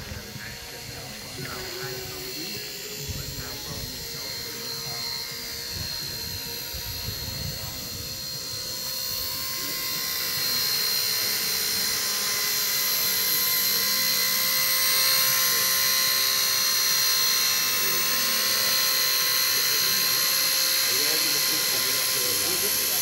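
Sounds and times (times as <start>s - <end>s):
model helicopter whine: 0.0s - 23.0s.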